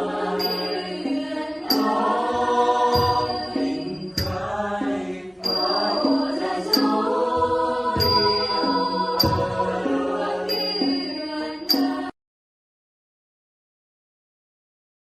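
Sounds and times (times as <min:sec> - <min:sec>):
choir singing long notes: 0:00.0 - 0:12.2.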